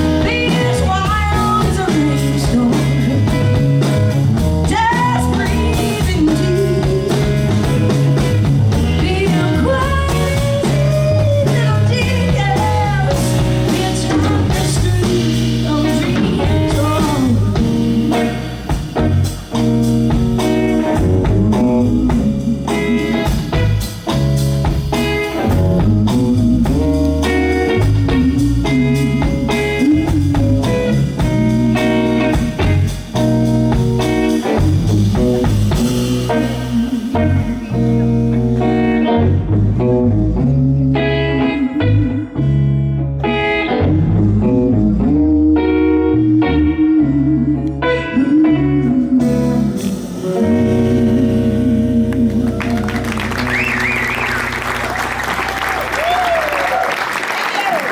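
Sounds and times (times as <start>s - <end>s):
sliding lead guitar notes: 0.0s - 56.9s
blues band playing: 0.0s - 57.9s.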